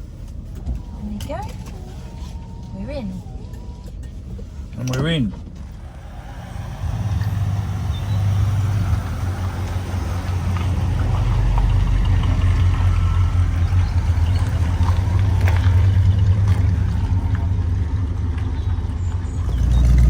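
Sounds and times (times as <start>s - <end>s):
car engine running at low revs: 0.0s - 20.0s.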